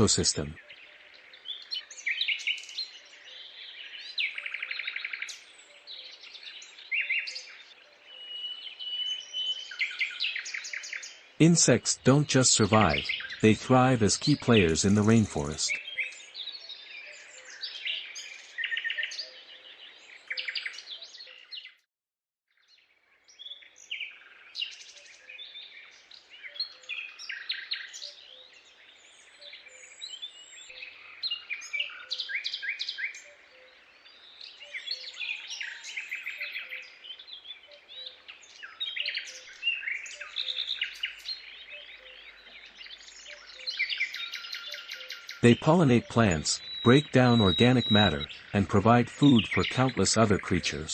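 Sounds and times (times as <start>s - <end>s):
birds chirping and trilling: 0.0s - 21.8s, 22.6s - 50.9s.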